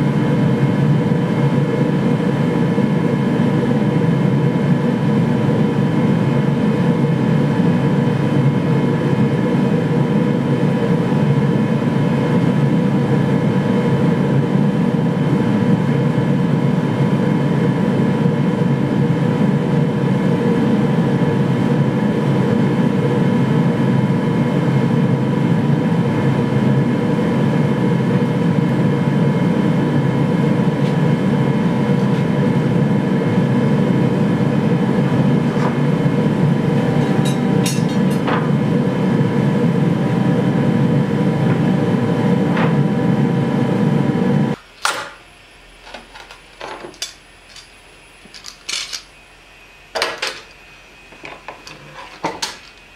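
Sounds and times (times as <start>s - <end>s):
blower whine: 0.0s - 52.9s
forge burner roaring: 0.0s - 52.9s.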